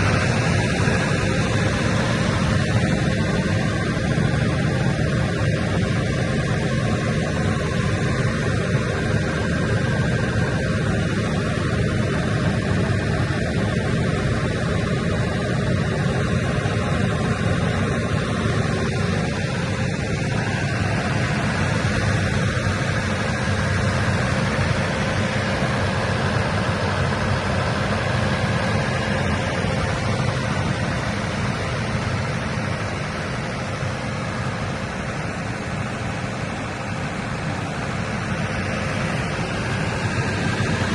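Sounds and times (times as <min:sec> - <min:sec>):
diesel generator running: 0:00.0 - 0:40.9.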